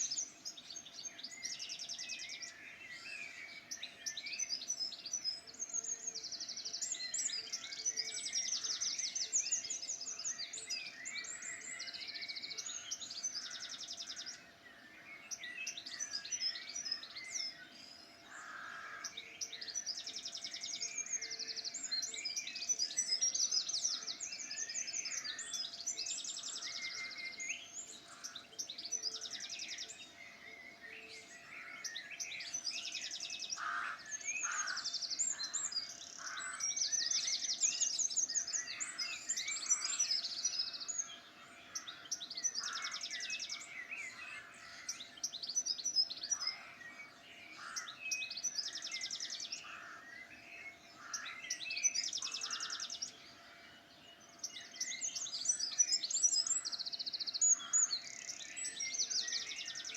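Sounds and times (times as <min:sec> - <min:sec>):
songbirds trilling and chirping: 0:00.0 - 0:59.9.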